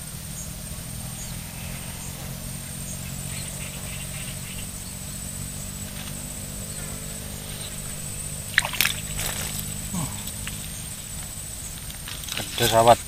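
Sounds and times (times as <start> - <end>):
bird chirps: 0.0 - 13.0
low motor hum: 0.0 - 13.0.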